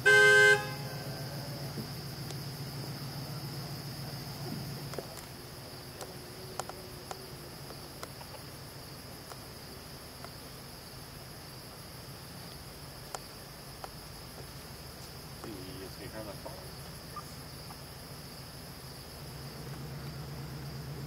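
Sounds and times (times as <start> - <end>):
high-pitched chorus of crickets: 0.0 - 21.0.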